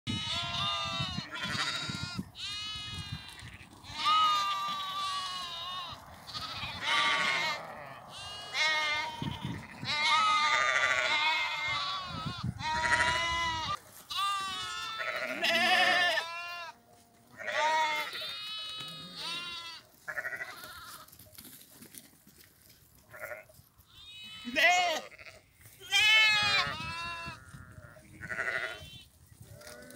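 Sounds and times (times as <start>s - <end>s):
sheep and lambs bleating: 0.1s - 21.2s, 23.0s - 29.9s.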